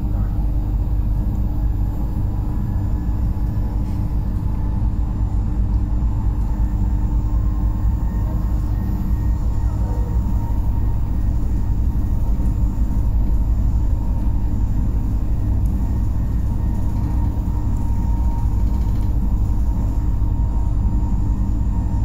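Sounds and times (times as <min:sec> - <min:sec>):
faint whine: 0:00.0 - 0:22.0
train rumbling in motion: 0:00.0 - 0:22.0.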